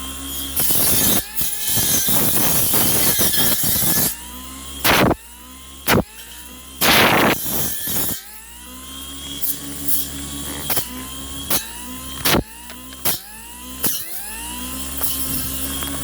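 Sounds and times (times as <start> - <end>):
brush cutter motor running: 0.0 - 16.0.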